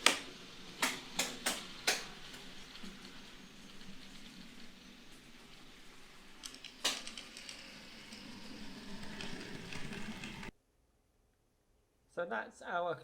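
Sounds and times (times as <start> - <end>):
model train wheels rattling on track: 0.0 - 10.5.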